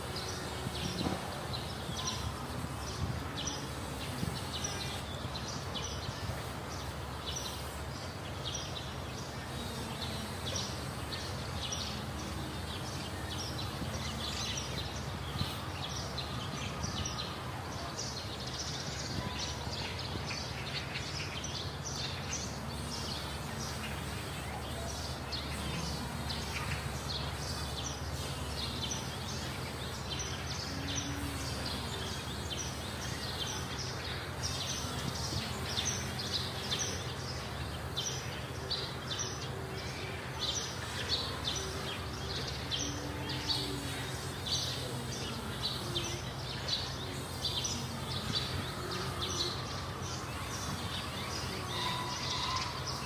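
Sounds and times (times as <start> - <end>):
birds chirping: 0.0 - 53.0
steady low hum: 0.0 - 53.0.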